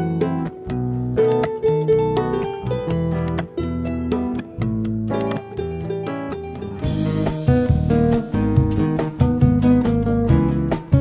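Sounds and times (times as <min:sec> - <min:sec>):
harp and guitar music: 0:00.0 - 0:11.0
low bass line: 0:00.0 - 0:11.0.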